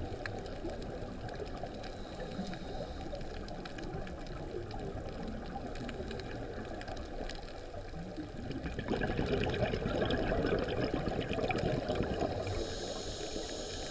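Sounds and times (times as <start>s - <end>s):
faint crackling clicks: 0.0s - 13.9s
underwater bubbles rushing: 0.0s - 13.9s.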